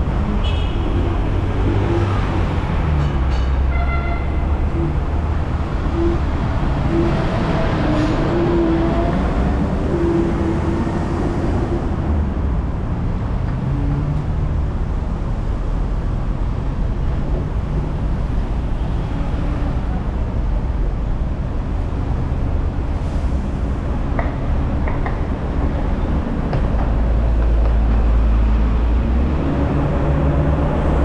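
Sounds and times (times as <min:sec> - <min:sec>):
tram wheels rumbling on rail: 0:00.0 - 0:31.0.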